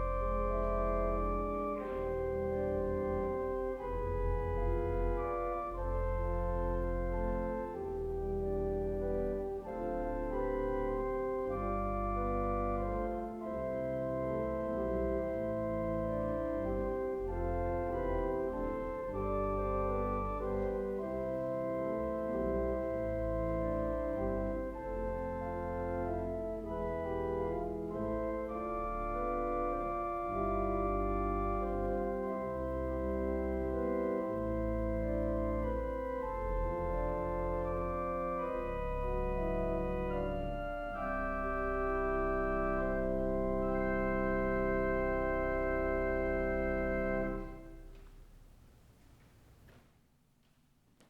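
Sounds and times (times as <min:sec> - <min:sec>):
organ playing sustained chords: 0:00.0 - 0:48.5.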